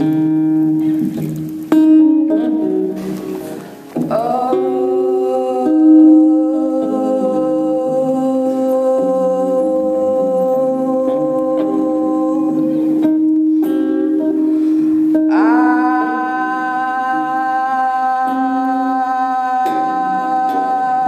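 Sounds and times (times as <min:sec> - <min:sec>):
electric guitar notes: 0:00.0 - 0:21.0.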